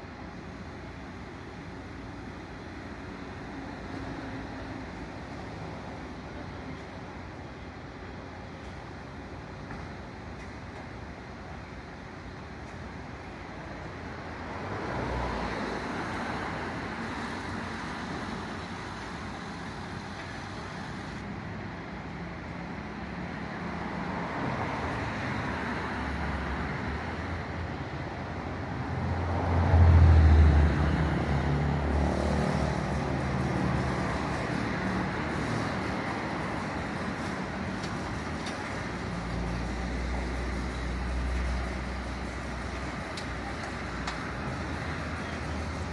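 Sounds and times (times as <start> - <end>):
street traffic: 0.0 - 45.9.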